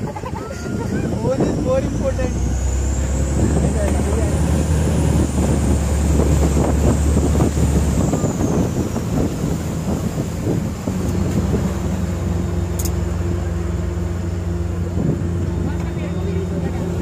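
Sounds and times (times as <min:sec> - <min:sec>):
motorboat engine: 0:00.0 - 0:17.0
water rushing: 0:00.0 - 0:17.0
wind buffeting microphone: 0:00.0 - 0:17.0.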